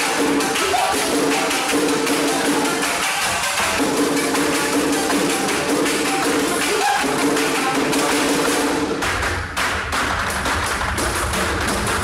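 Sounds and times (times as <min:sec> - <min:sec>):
quick sharp percussive taps: 0:00.0 - 0:12.0.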